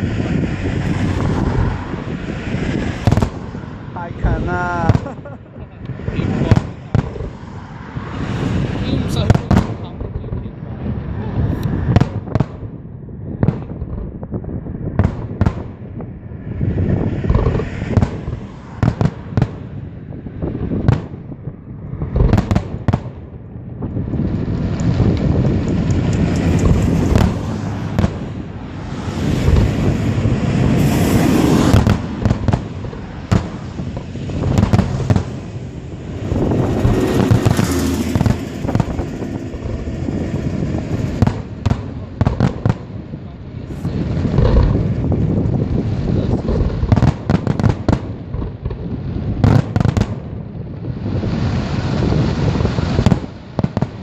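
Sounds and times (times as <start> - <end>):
firework shells booming: 0.0 - 10.4, 11.6 - 16.1, 16.9 - 54.0
fireworks crackling and fizzing: 0.0 - 54.0.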